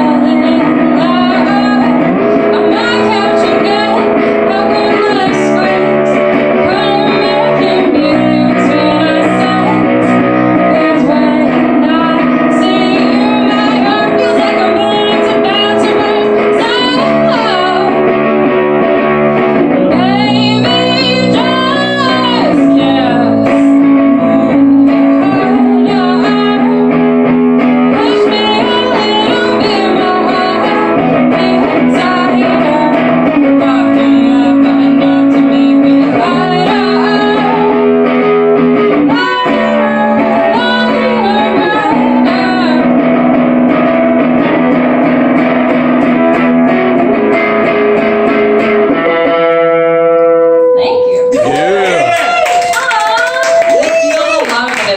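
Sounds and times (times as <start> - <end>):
woman singing: 0.0 - 18.7, 19.4 - 44.5, 52.6 - 54.9
guitar chords: 0.0 - 54.9.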